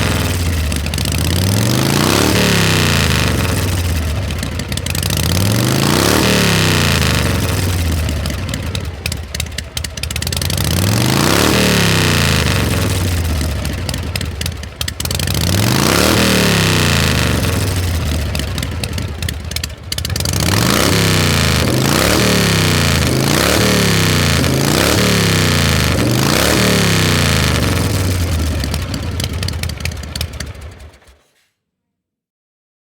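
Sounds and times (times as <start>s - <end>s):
engine revving: 0.0s - 31.4s.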